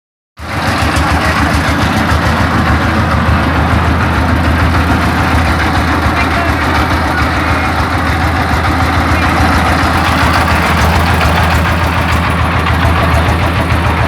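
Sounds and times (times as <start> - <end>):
diesel engine idling: 0.4 - 14.0.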